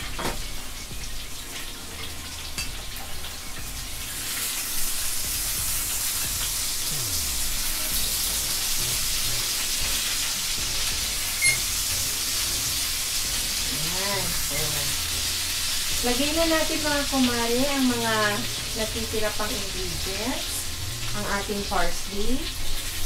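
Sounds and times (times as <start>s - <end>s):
potatoes sizzling in butter: 0.0s - 23.0s.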